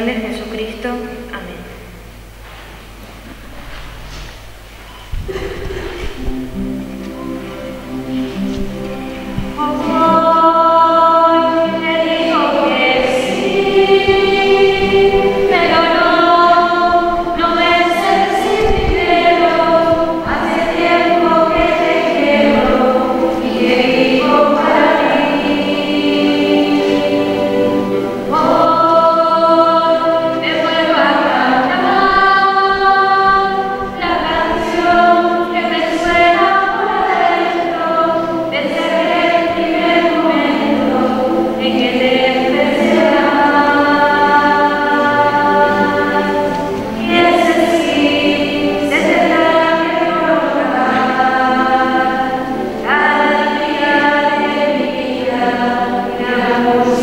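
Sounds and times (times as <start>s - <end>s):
choir singing slow sacred song: 1.2s - 57.0s.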